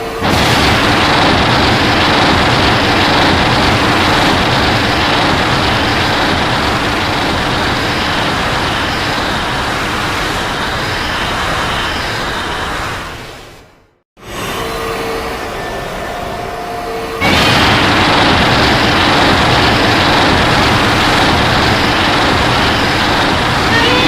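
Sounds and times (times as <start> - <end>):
loud steady rushing noise: 0.0 - 16.1, 17.2 - 24.0.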